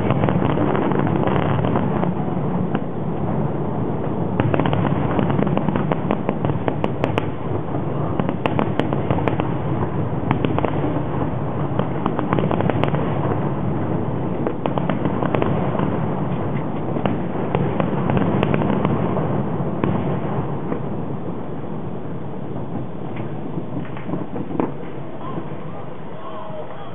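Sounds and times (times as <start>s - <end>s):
fireworks bursts and crackling pops: 0.0s - 26.9s.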